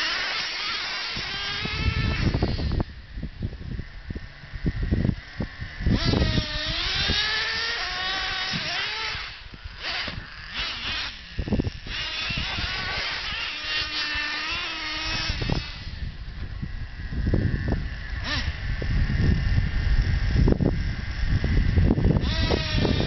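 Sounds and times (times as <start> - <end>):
rc truck engine revving: 0.0 - 23.0.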